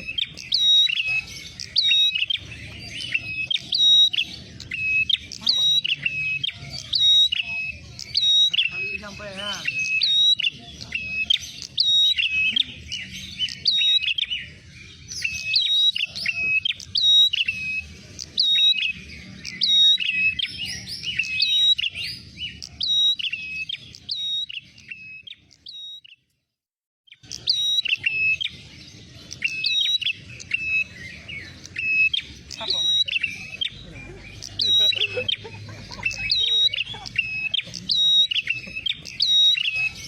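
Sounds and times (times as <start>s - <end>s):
songbird rapid sharp chirps: 0.0s - 26.4s, 27.1s - 40.0s.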